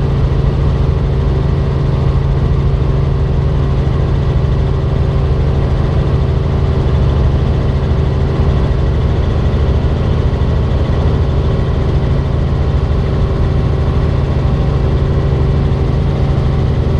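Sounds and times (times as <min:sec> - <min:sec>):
helicopter engine and rotor drone: 0:00.0 - 0:16.9.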